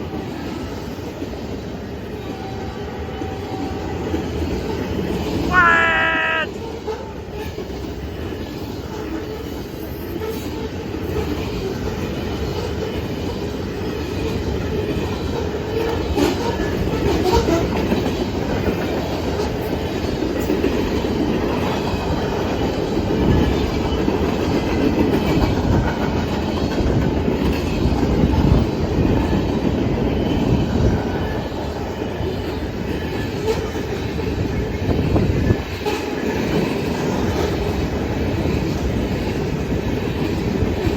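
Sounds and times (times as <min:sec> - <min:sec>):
freight train rolling past: 0:00.0 - 0:05.5, 0:06.1 - 0:40.9.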